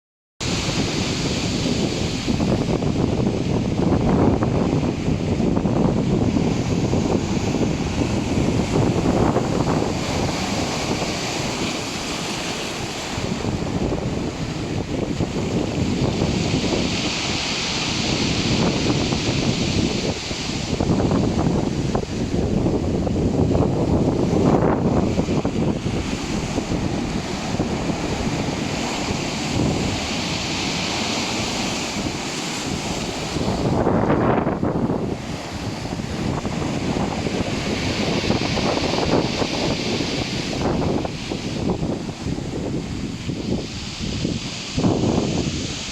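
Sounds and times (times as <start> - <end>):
surf washing: 0.4 - 45.9
wind rumbling on microphone: 0.4 - 45.9.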